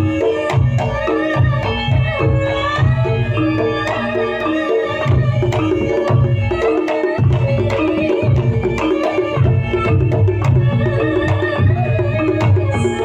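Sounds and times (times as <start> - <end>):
stepping melodic line: 0.0 - 13.0.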